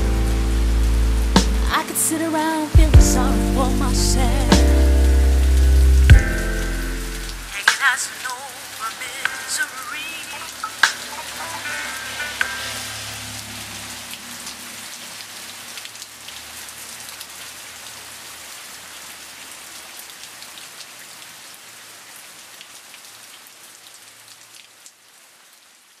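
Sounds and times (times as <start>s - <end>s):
raindrops ticking nearby: 0.0s - 26.0s
steady rain: 0.0s - 26.0s.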